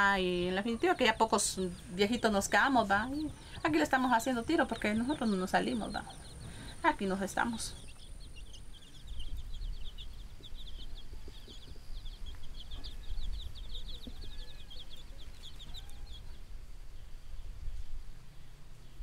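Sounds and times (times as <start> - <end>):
hen clucking: 0.0 - 16.4
rapid high chirping: 0.0 - 16.4.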